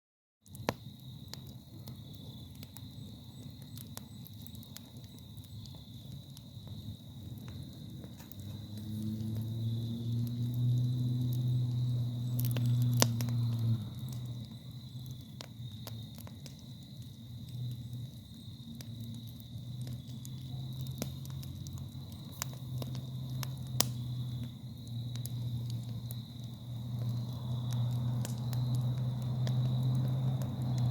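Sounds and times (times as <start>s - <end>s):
burning wood popping: 0.4s - 30.9s
campfire crackling: 0.4s - 30.9s.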